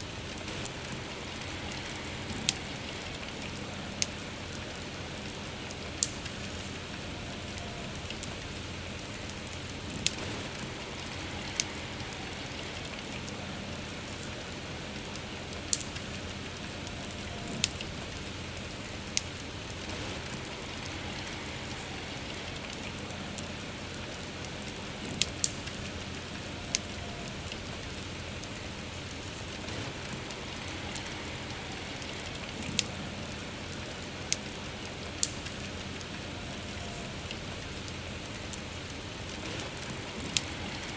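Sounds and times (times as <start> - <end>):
soft rainfall: 0.0 - 40.9
wood fire crackling: 0.0 - 40.9.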